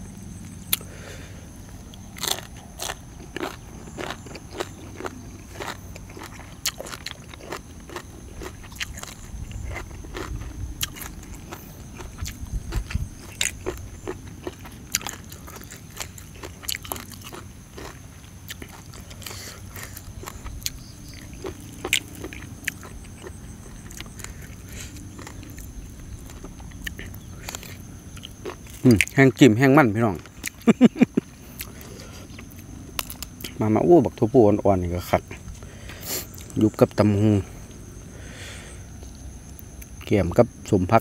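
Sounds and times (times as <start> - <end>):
person crunching and chewing crab: 0.6 - 29.3, 30.1 - 33.6, 35.3 - 36.6.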